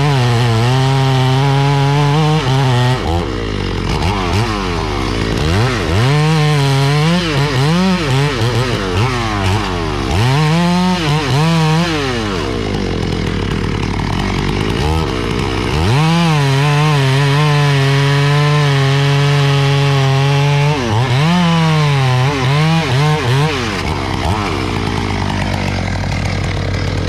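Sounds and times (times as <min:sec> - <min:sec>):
chainsaw cutting tree trunk: 0:00.0 - 0:27.0.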